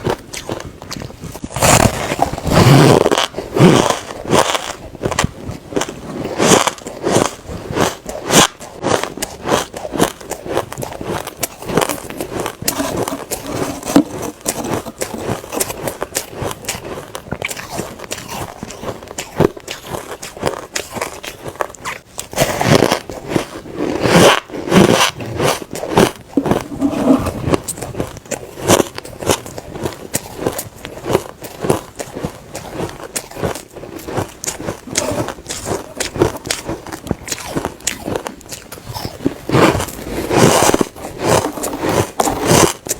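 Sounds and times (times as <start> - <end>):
crunchy chewing of ice: 0.0 - 42.9.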